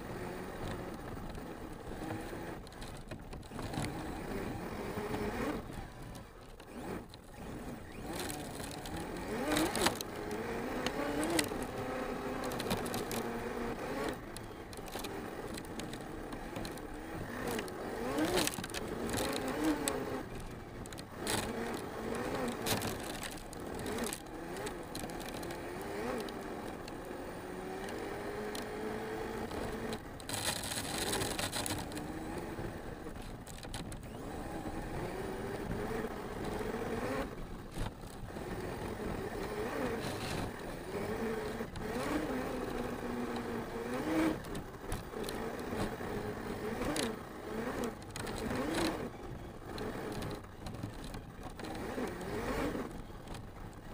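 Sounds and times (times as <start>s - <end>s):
electric motor whining: 0.0s - 53.2s
tyres scraping on dirt: 0.0s - 53.9s.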